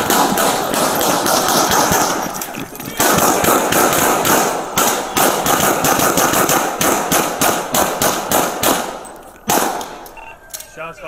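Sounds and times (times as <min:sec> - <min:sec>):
handguns firing rapid shots: 0:00.0 - 0:10.2.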